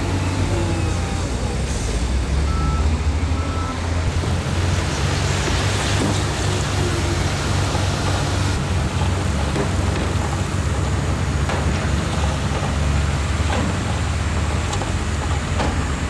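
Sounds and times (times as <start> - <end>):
heavy diesel machinery engine drone: 0.0 - 16.0.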